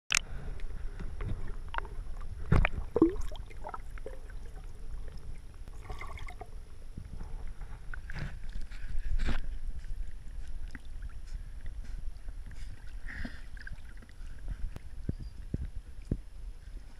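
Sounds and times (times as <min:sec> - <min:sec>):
underwater sloshing and gurgling: 0:00.1 - 0:16.9.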